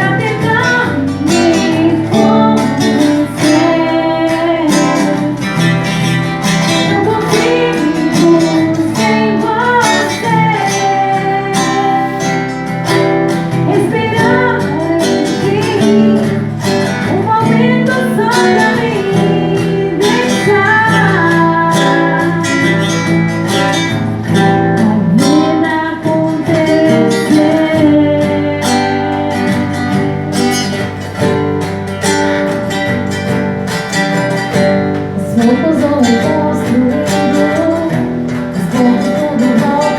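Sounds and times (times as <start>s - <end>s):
person singing: 0.0s - 5.9s, 6.5s - 23.1s, 24.5s - 31.1s, 35.2s - 39.9s
strummed acoustic guitar: 0.0s - 39.9s.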